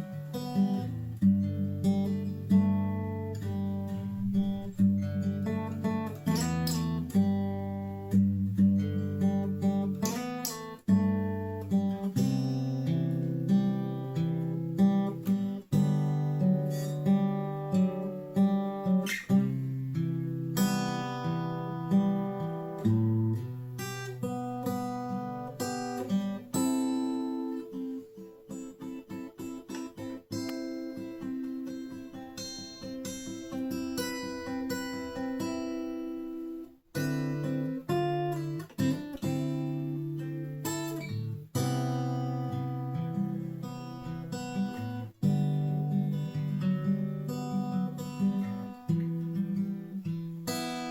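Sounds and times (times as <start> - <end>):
acoustic guitar playing: 0.0 - 50.9.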